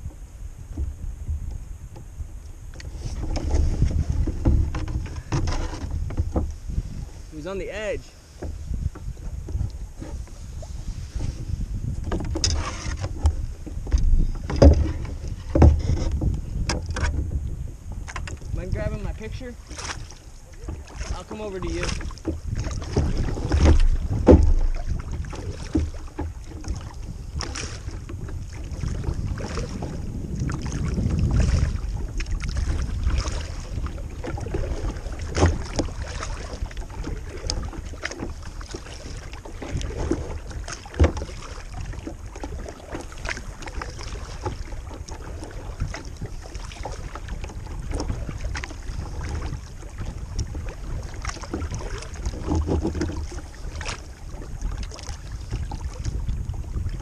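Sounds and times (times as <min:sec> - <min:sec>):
kayak paddle splashing water: 0:00.0 - 0:57.0
wind rumbling on microphone: 0:00.0 - 0:57.0.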